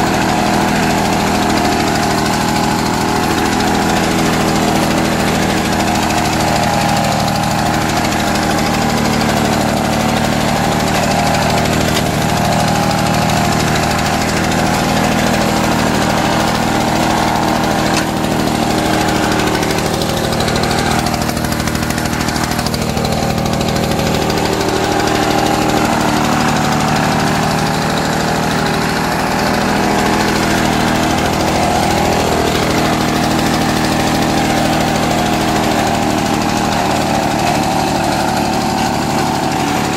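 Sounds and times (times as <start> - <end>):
lawn mower engine mowing grass: 0.0 - 39.9.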